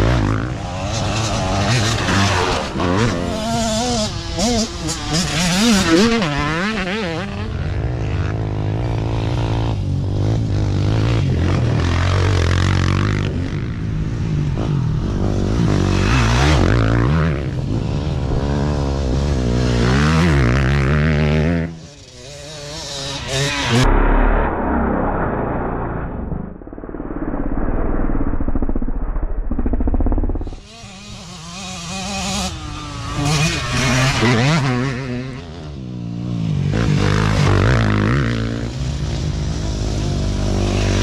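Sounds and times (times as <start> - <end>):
dirt bike engines revving: 0.0 - 23.9, 30.3 - 41.0.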